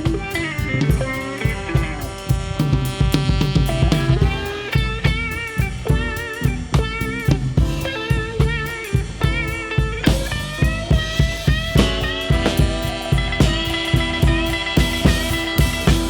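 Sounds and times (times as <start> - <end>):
bending lead melody: 0.0 - 16.0
blues band playing live: 0.0 - 16.0
drum kit steady beat: 0.0 - 16.0.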